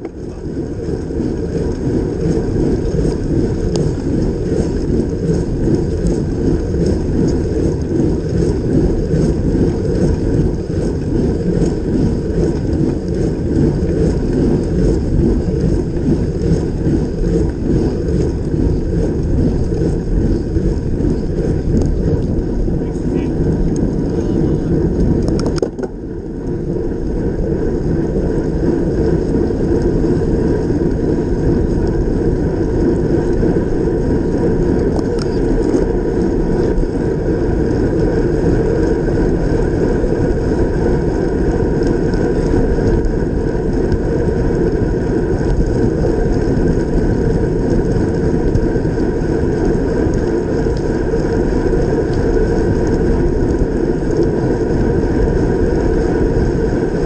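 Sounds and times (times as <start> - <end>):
tyre noise on wet road: 0.0 - 57.0
wind rush: 0.0 - 57.0.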